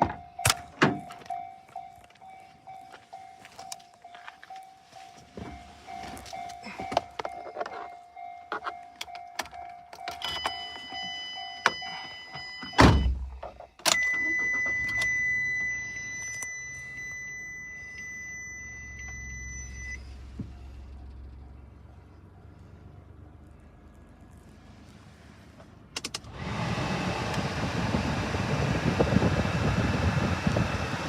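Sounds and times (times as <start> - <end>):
car engine starting and idling: 0.0 - 31.0.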